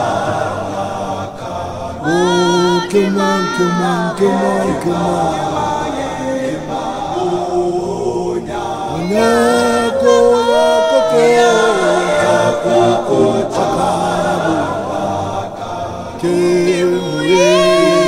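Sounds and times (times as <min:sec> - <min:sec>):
male choir singing a cappella: 0:00.0 - 0:18.0.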